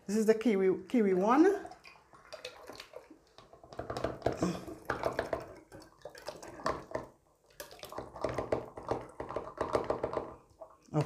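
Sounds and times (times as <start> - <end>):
puree glugging and splashing: 1.2 - 11.0.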